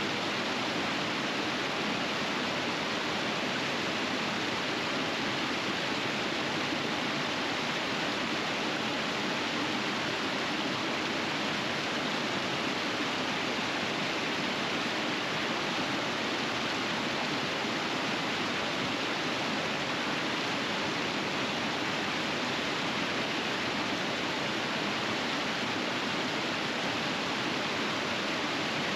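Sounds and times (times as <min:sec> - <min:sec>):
river rapids rushing over rocks: 0:00.0 - 0:28.9.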